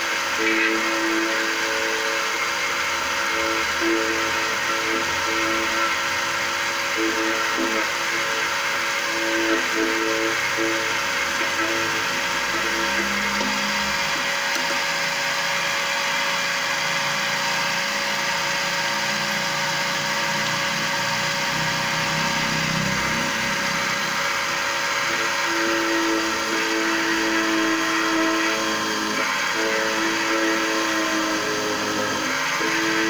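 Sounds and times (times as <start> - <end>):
key-cutting machine whirring: 0.0 - 33.0.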